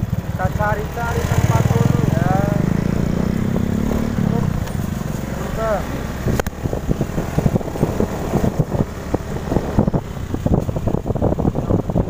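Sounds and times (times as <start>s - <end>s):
scooter engine running: 0.0s - 12.0s
wind on microphone: 1.0s - 12.0s.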